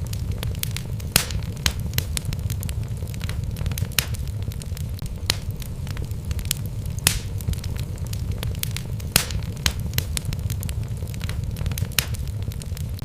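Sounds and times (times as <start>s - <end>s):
wood fire burning: 0.0s - 13.0s.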